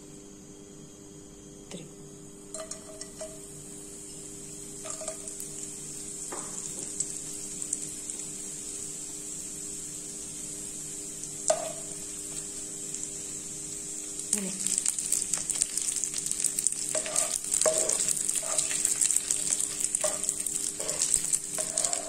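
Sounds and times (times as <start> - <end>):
fish sizzling in hot oil: 2.5 - 22.0.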